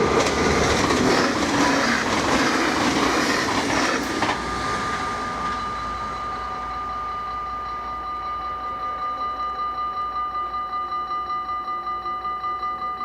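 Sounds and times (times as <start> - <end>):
level crossing bells ringing: 0.0 - 13.0.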